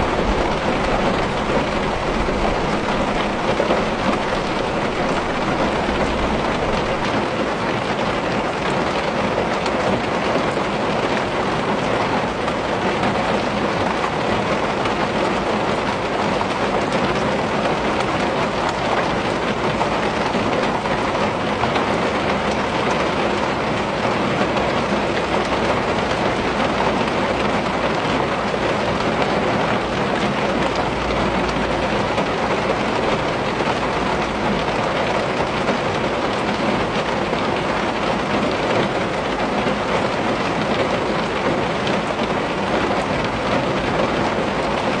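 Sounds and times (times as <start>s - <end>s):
rain on a window pane: 0.0s - 45.0s.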